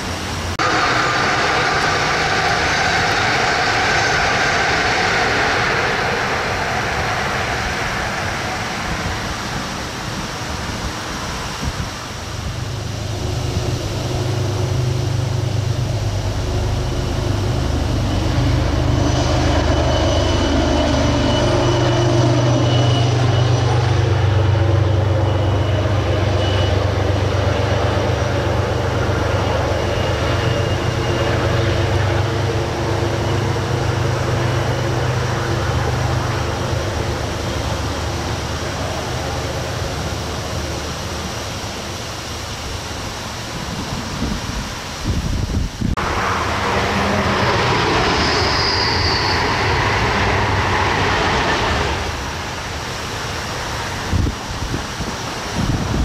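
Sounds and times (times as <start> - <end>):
diesel locomotive engine drone: 0.0 - 56.0
wheels rumbling on rails: 0.0 - 56.0.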